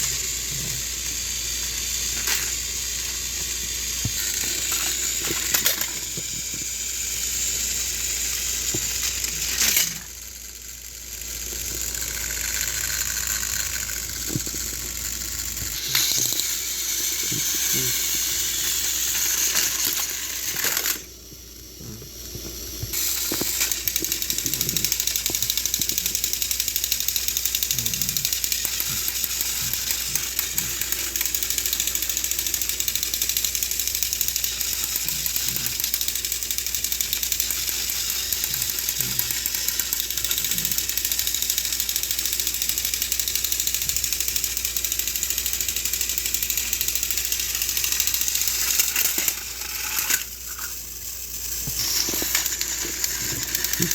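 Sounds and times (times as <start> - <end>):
toy train motors clicking and rattling: 0.0 - 53.9.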